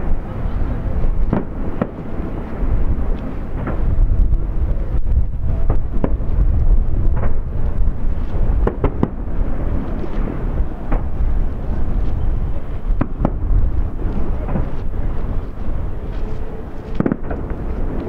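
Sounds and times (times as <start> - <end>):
distant fireworks cracking: 0.0 - 18.0
low rumble: 0.0 - 18.0.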